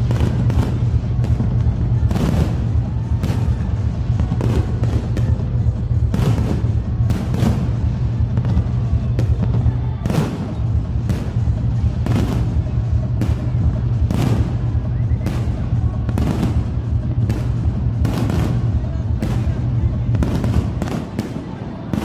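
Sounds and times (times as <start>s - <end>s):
fireworks bangs: 0.0s - 22.0s
loud music with deep bass: 0.0s - 22.0s.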